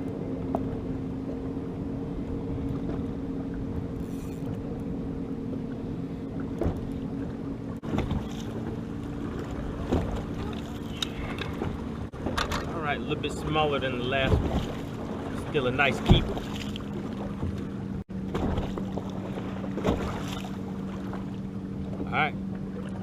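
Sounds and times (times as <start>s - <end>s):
electric trolling motor humming: 0.0s - 23.0s.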